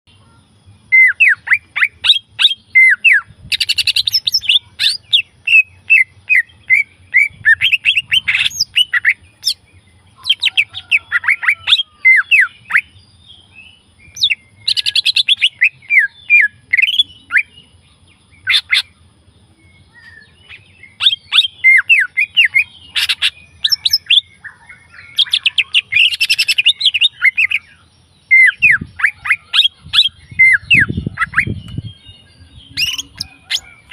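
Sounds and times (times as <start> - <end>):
bird singing chirps and whistles: 0.2 - 33.9.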